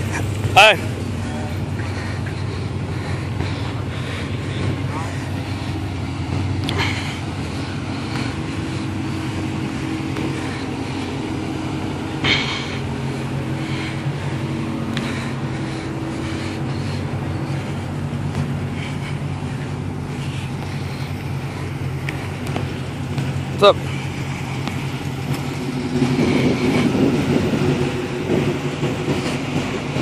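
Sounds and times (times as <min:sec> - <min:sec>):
car engines running: 0:00.0 - 0:30.0.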